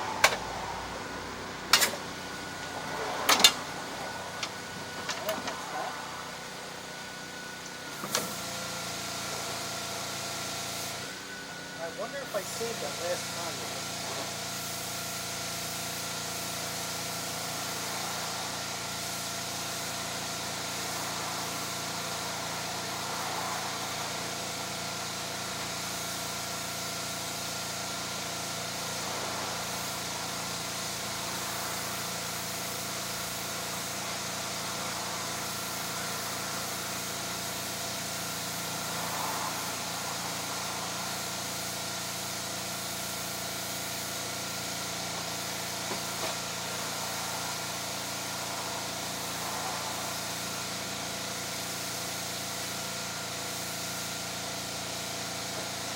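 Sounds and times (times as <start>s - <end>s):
small engine running steadily: 0.0s - 55.9s.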